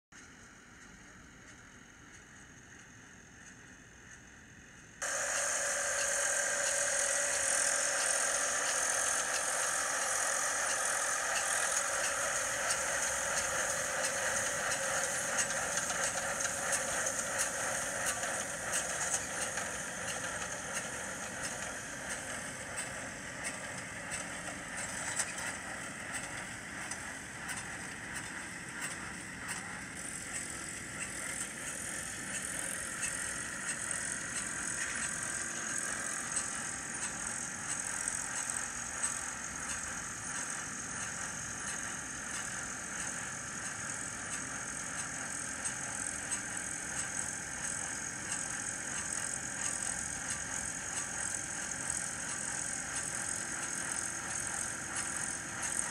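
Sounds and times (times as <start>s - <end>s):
tractor and baler mechanical din: 5.0s - 55.9s.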